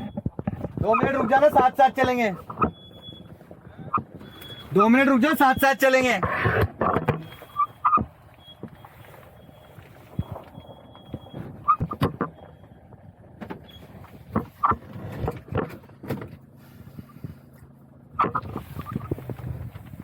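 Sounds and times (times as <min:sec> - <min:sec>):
knocks clicks and creaks: 0:00.0 - 0:20.0
low engine hum: 0:00.0 - 0:20.0.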